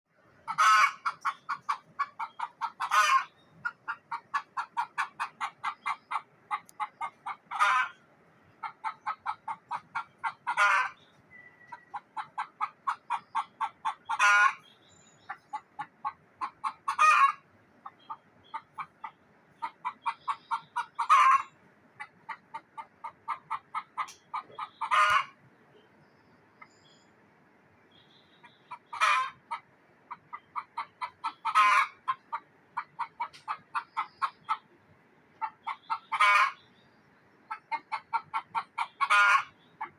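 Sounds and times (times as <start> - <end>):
hen alarm cackle: 0.3 - 14.6, 15.3 - 25.4, 28.1 - 34.8, 35.4 - 36.7, 37.5 - 39.9.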